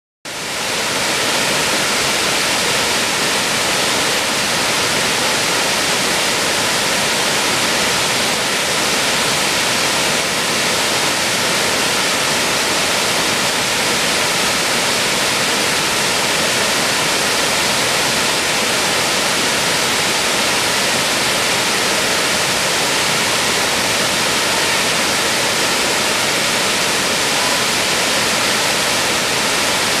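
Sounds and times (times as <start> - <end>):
waterfall rushing over rock: 0.3 - 30.0.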